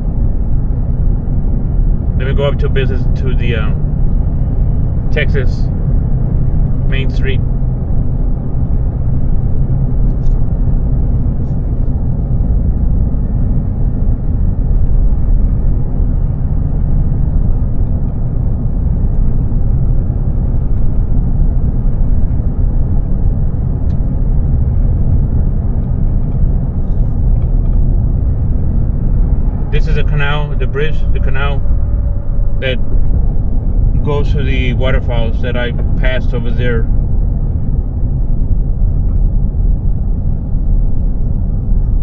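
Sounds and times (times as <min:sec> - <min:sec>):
car engine: 0:00.0 - 0:42.0
road noise: 0:00.0 - 0:42.0.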